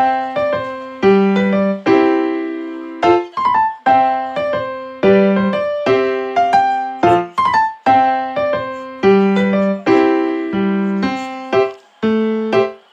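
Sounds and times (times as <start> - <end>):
piano melody: 0.0 - 12.9.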